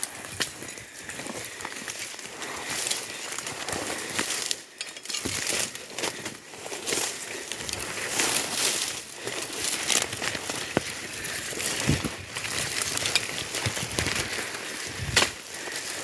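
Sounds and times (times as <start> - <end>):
dry grass rustling and crackling: 0.0 - 16.0.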